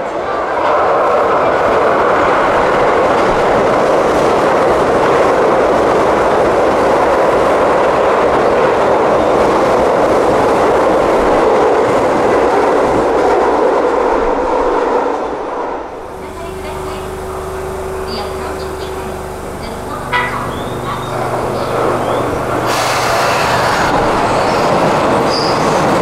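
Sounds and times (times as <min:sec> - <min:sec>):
train rushing past: 0:00.0 - 0:26.0.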